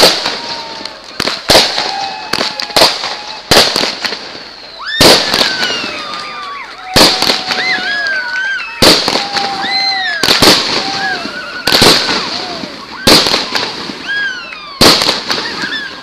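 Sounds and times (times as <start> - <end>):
firework shells bursting: 0.0 - 16.0
firework whistling: 0.0 - 16.0.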